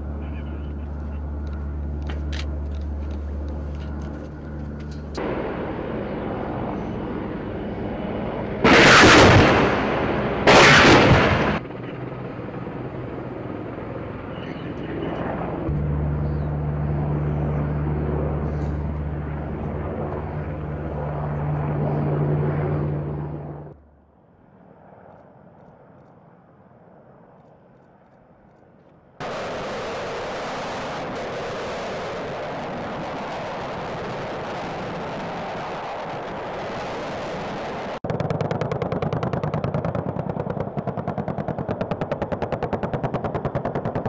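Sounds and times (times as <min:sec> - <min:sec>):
helicopter engine and rotor hum: 0:00.0 - 0:23.8, 0:24.5 - 0:44.0.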